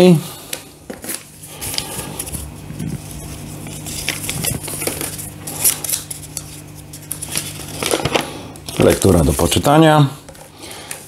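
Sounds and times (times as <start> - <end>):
paper leaflet rustling: 0.5 - 11.0.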